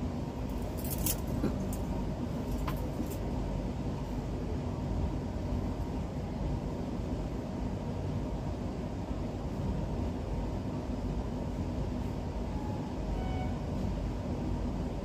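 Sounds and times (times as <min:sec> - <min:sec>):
train rumble inside coach: 0:00.0 - 0:15.0.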